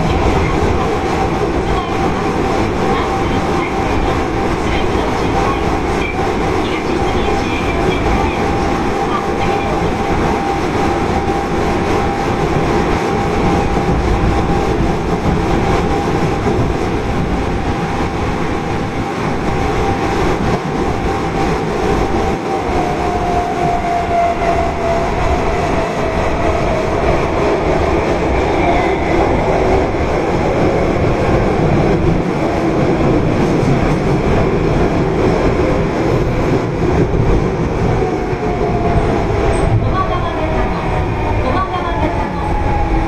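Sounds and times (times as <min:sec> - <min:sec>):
wheels rumbling on rail: 0:00.0 - 0:43.0.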